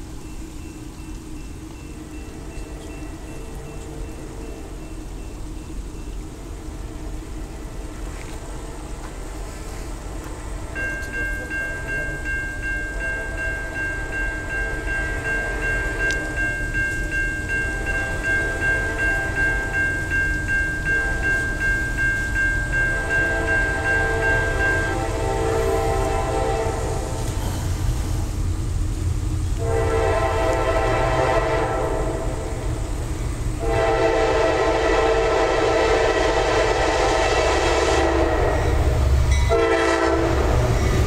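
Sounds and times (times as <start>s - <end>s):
crossing warning bell ringing: 0.0s - 8.1s, 8.8s - 28.0s, 29.6s - 41.0s
freight train rumble: 0.0s - 41.0s
distant train horn blasts: 2.2s - 5.0s, 6.4s - 27.7s, 29.6s - 32.9s, 33.6s - 41.0s.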